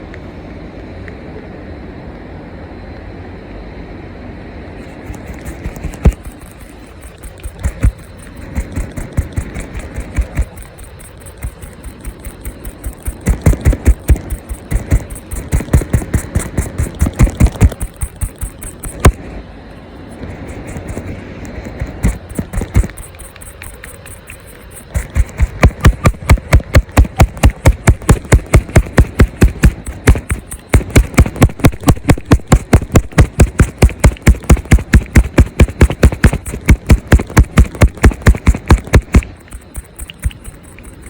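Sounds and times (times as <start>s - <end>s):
rapid sharp knocking: 5.0s - 19.3s, 20.1s - 41.0s.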